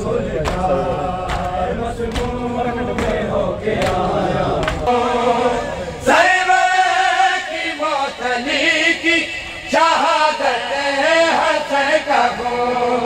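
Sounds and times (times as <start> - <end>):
crowd chanting in chorus: 0.0 - 13.0.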